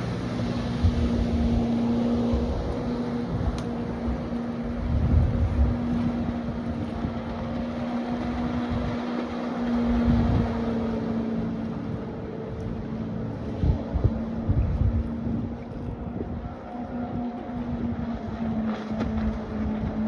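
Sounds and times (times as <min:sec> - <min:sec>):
motorboat engine running: 0:00.0 - 0:20.0
wind gusting on microphone: 0:00.0 - 0:20.0.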